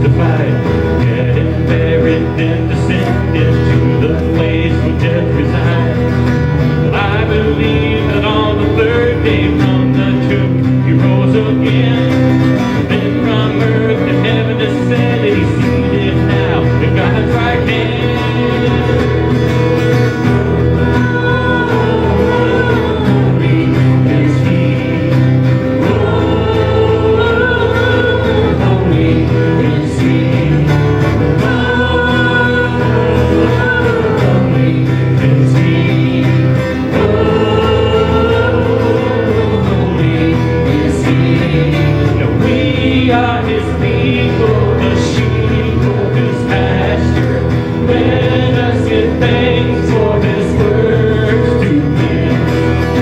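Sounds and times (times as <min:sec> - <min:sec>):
guitar: 0:00.0 - 0:53.0
people singing: 0:00.0 - 0:53.0.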